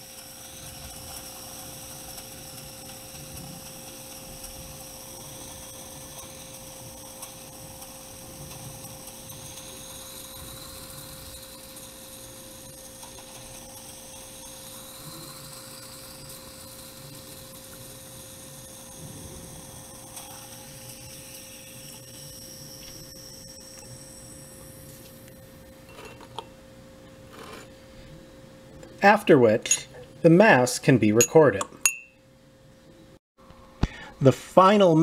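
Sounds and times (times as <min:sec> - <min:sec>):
faint high whine: 0:00.0 - 0:35.0
steady electrical hum: 0:00.0 - 0:35.0.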